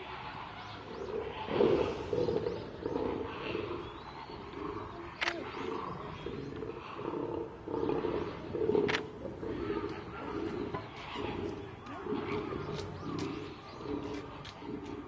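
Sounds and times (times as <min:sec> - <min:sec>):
lions growling: 0:00.0 - 0:15.0.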